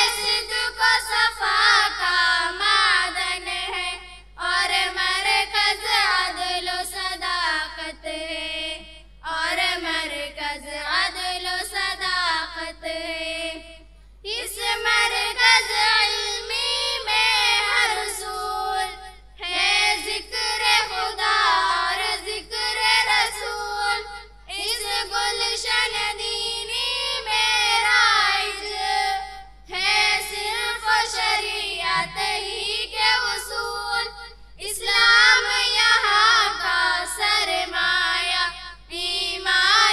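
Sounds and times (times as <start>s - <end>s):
girls singing into a microphone: 0.0s - 39.9s.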